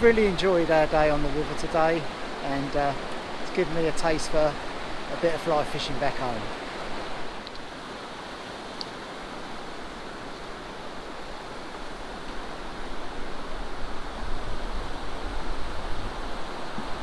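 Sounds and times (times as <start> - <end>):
river water rushing over stones: 0.0 - 17.0.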